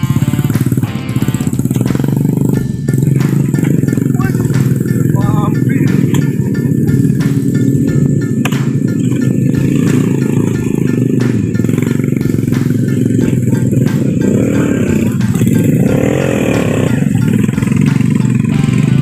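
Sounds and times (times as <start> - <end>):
motorcycle engine labouring: 0.0 - 19.0.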